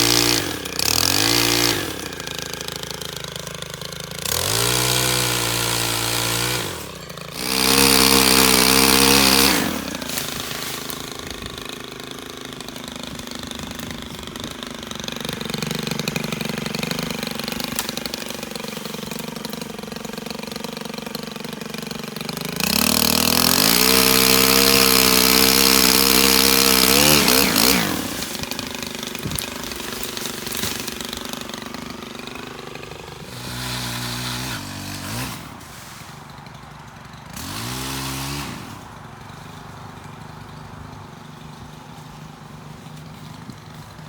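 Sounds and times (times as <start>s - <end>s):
pole saw engine idling and revving: 0.0s - 44.0s.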